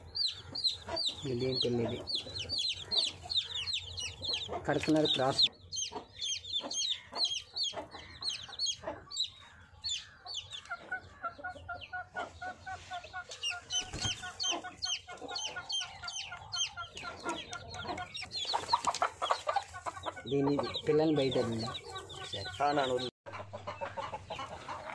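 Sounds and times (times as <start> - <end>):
chicks peeping: 0.0 - 24.9
hen clucking: 0.0 - 24.9.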